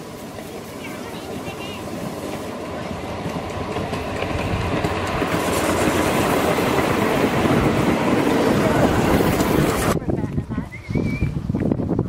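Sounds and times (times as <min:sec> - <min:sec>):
miniature train rattling on track: 0:00.0 - 0:10.0.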